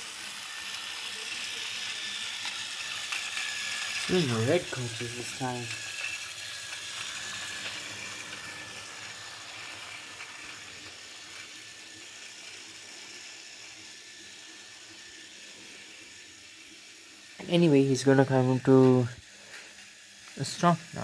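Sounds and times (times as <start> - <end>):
toy train motor whirring: 0.0 - 21.0.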